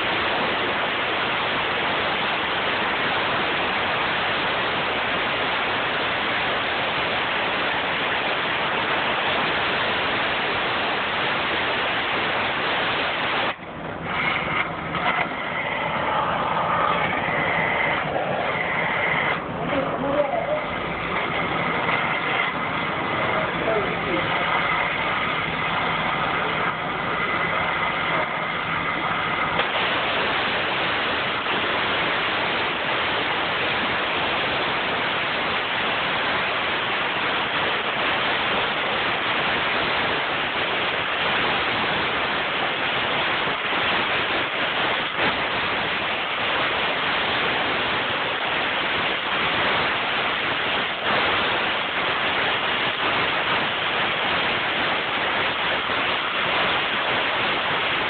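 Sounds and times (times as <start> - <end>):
cutting torch hissing: 0.0 - 58.0.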